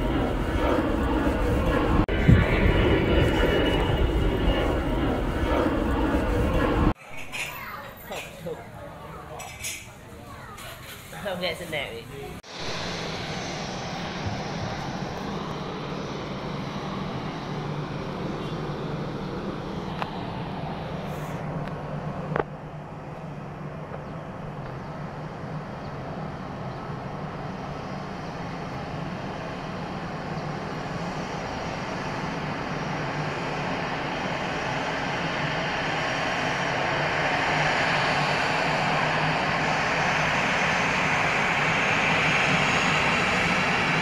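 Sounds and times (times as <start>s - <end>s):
high engine whine: 0.0s - 7.3s, 11.7s - 44.0s
jet engines taxiing: 0.0s - 44.0s.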